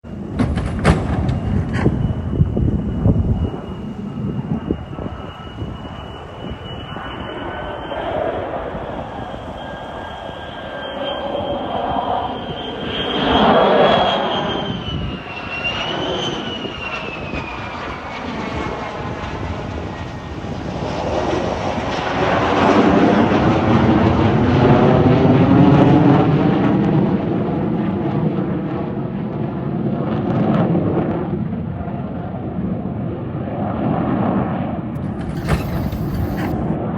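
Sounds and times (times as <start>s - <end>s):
jet engine howl and whine: 0.0s - 36.9s.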